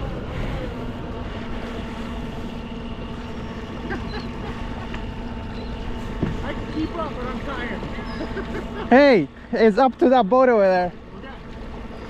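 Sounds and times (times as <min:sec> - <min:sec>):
electric drive motor humming: 0:00.0 - 0:12.0
water and wind rushing: 0:00.0 - 0:12.0.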